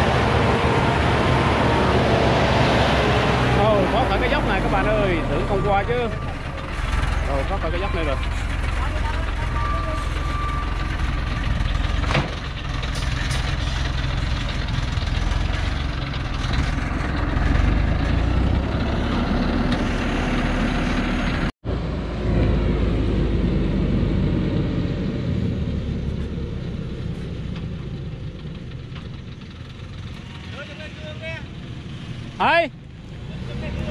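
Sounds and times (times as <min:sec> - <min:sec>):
truck engine under load: 0:00.0 - 0:33.9.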